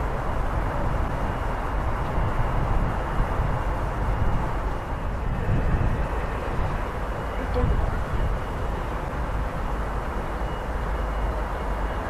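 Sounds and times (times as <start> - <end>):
faint high whine: 0.0 - 12.0
low rumble of trains: 0.0 - 12.0.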